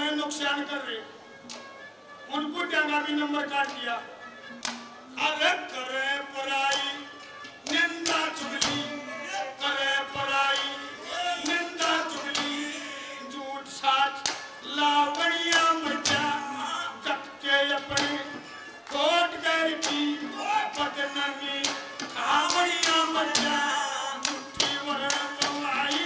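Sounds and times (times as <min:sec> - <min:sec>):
instrumental accompaniment: 0:00.0 - 0:26.0
man singing into microphone: 0:05.1 - 0:26.0.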